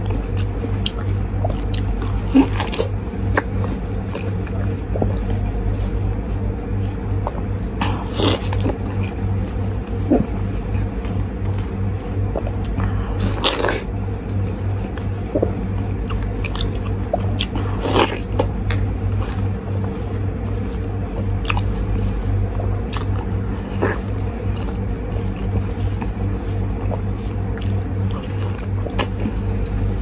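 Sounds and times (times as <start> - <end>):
background music with low pulse: 0.0 - 30.0.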